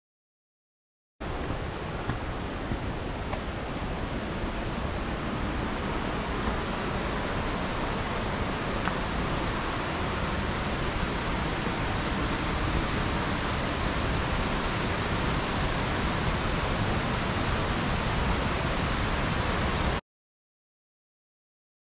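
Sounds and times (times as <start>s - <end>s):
rushing white water: 1.2s - 20.0s.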